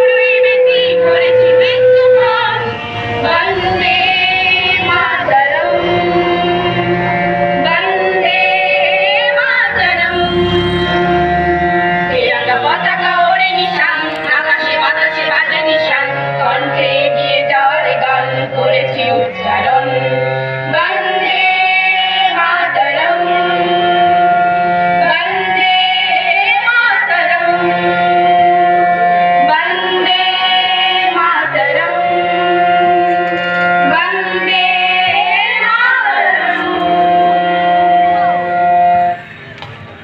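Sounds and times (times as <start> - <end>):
woman singing: 0.0 - 6.8, 7.6 - 11.0, 12.1 - 24.1, 25.0 - 28.0, 29.4 - 32.5, 33.8 - 38.4
instrumental accompaniment: 0.0 - 40.0.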